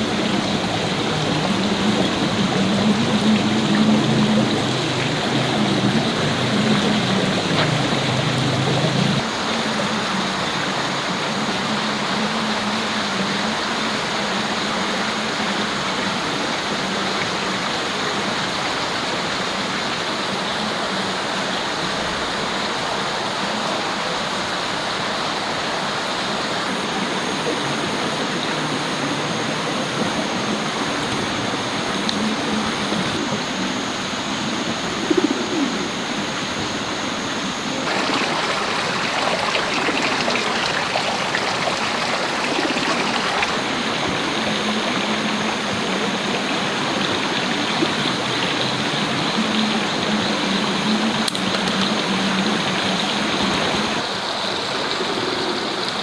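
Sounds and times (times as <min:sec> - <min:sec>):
rushing water noise: 0:00.0 - 0:56.0.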